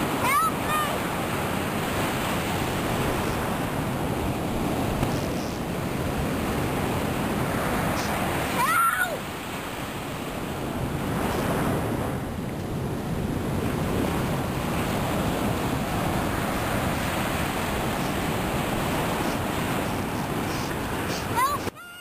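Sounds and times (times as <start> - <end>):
wind buffeting microphone: 0.0 - 21.7
ocean surf breaking: 0.0 - 22.0.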